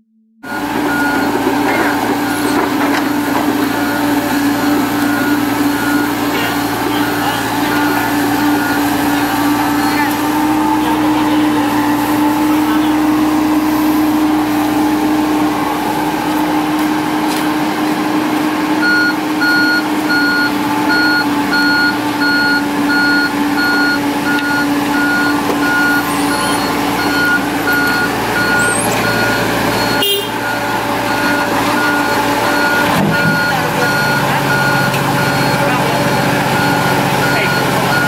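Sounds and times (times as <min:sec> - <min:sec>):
reversing alarm beeping: 0:00.4 - 0:15.3, 0:18.8 - 0:38.0
diesel machinery engine running: 0:00.4 - 0:38.0.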